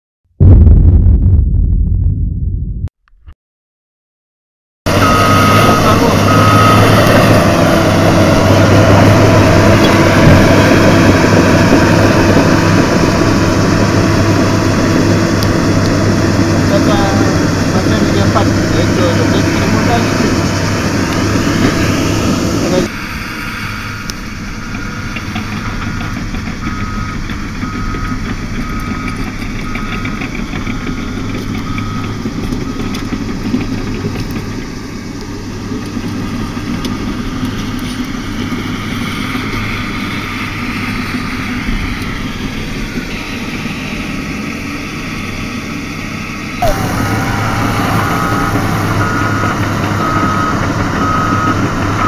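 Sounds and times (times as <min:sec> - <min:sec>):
diesel engine running: 0:04.9 - 0:52.0.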